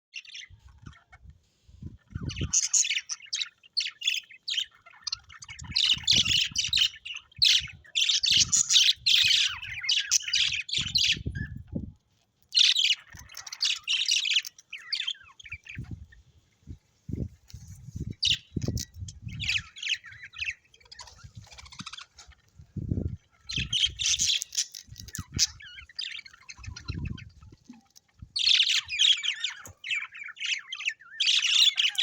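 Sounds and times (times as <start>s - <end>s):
parrots chirping and squawking: 0.2s - 11.7s, 12.4s - 16.5s, 17.2s - 32.0s.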